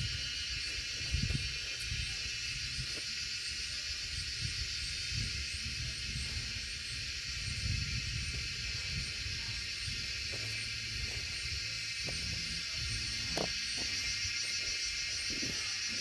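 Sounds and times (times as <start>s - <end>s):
wind buffeting microphone: 0.0s - 14.4s
high-pitched insect chorus: 0.0s - 16.0s.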